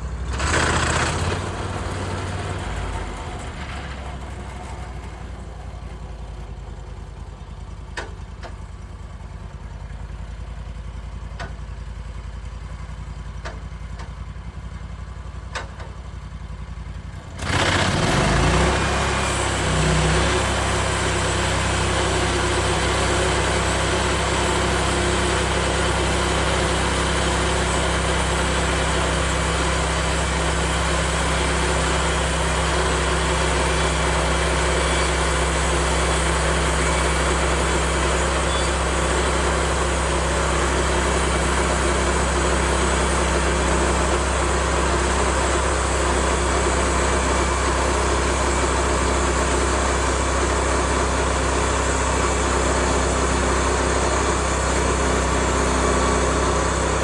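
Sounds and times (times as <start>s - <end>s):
sawmill gas engine: 0.0s - 57.0s.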